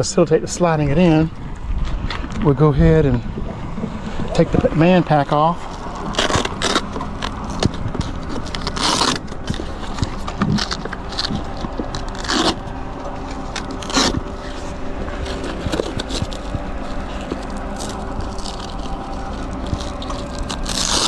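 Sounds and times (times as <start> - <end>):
steady low hum: 0.0 - 21.0
bag scraping and rustling: 3.9 - 21.0.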